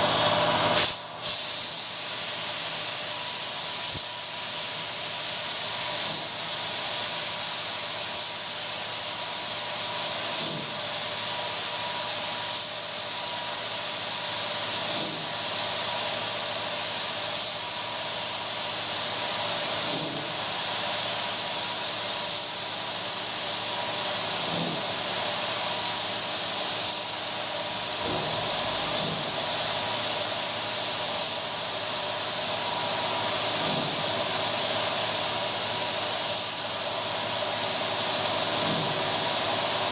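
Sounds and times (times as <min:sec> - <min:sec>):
spray gun hissing: 0:00.8 - 0:39.9.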